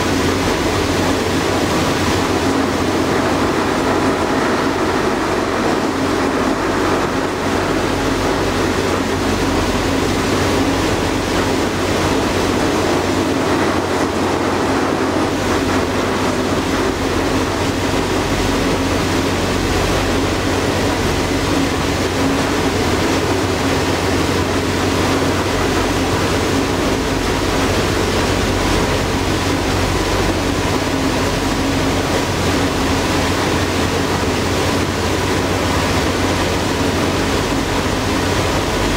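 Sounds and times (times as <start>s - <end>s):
ferry engine hum: 0.0s - 38.9s
rushing water and air: 0.0s - 38.9s.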